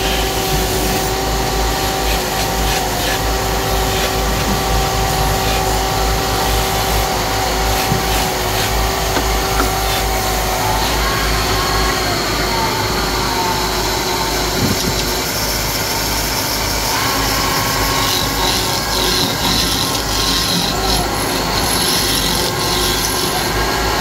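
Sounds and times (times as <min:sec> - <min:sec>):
wood lathe motor whine: 0:00.0 - 0:24.0.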